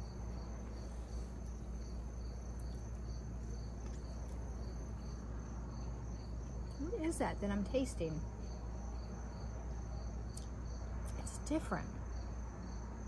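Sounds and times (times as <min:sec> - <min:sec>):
insects trilling: 0:00.0 - 0:13.0
pulsing insect song: 0:00.0 - 0:13.0.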